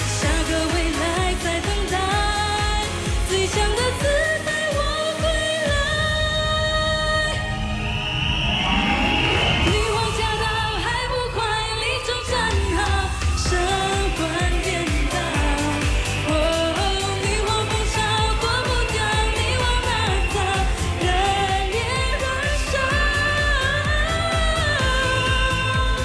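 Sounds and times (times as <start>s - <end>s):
woman singing into a microphone: 0.0s - 7.6s, 9.7s - 26.0s
backing track with heavy beat: 0.0s - 11.4s, 12.3s - 26.0s.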